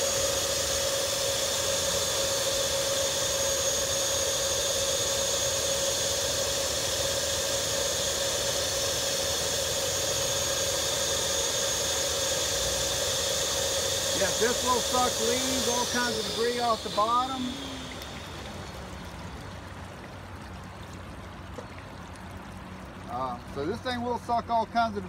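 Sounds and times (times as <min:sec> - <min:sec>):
pond vacuum motor humming: 0:00.0 - 0:25.0.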